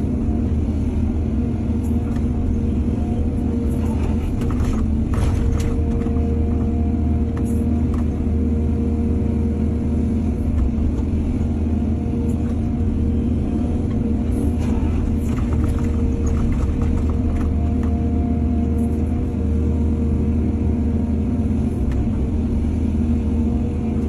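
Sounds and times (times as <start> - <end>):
excavator diesel engine rumbling: 0.0 - 24.0.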